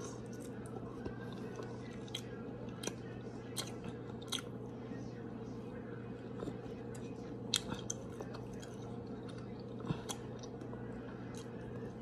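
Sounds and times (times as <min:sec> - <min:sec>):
person chewing with mouth smacks: 0:00.0 - 0:04.6, 0:06.2 - 0:12.0
steady low hum: 0:00.0 - 0:12.0.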